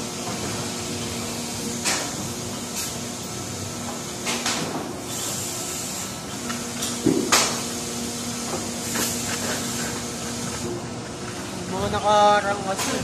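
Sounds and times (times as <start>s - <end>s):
molding machine humming: 0.0s - 13.0s.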